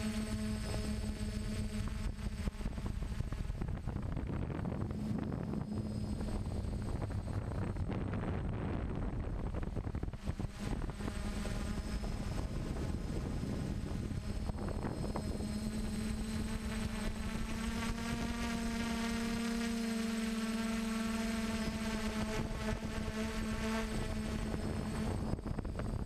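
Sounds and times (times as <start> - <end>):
drone motors humming: 0.0 - 26.0
low air noise rumble: 0.0 - 26.0.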